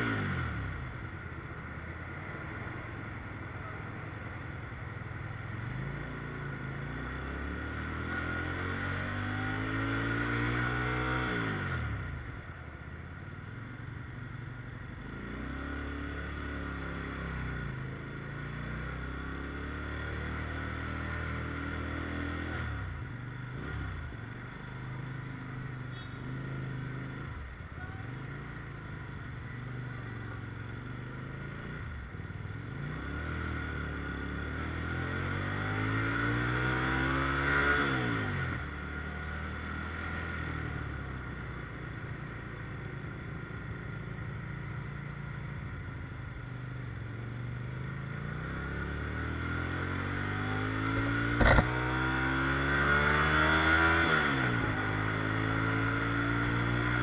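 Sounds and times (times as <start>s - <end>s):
motorcycle engine revving: 5.5s - 12.4s, 15.0s - 57.0s.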